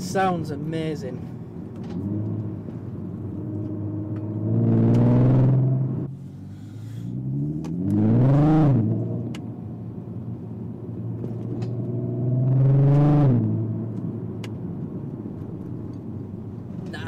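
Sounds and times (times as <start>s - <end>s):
car engine accelerating from cabin: 1.2s - 16.0s.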